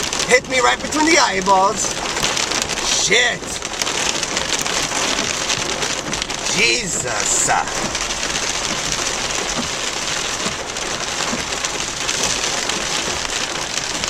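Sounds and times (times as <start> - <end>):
hail pelting a car: 0.0 - 14.0.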